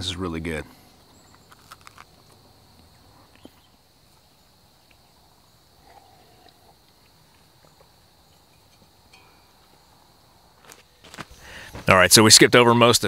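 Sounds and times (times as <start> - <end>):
faint high-pitched hiss: 0.0 - 13.0.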